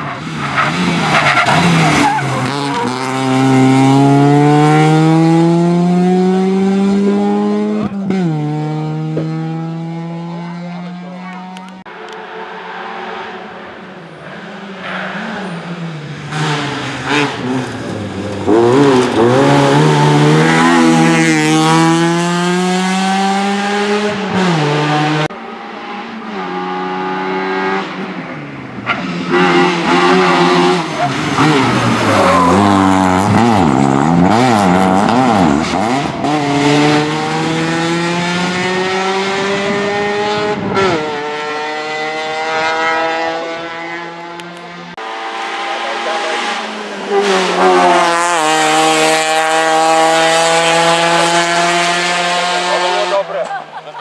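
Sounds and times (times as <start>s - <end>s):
car engine revving: 0.0s - 53.6s.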